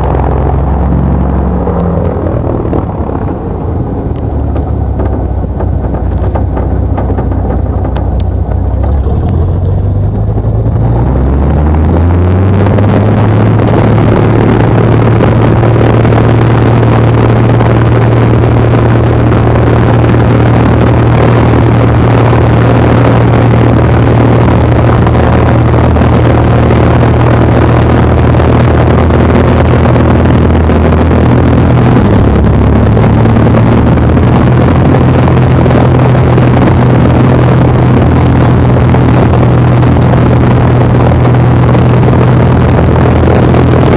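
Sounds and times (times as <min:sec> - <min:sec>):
plane piston engine drone: 0:00.0 - 0:43.9.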